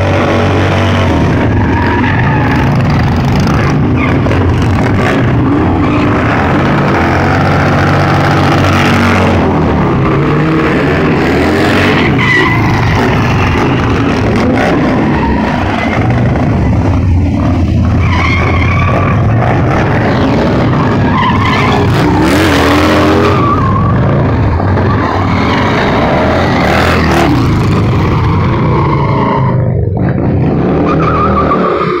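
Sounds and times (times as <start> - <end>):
motorcycle engine revving: 0.0 - 32.0
tyre squealing on asphalt: 0.0 - 32.0.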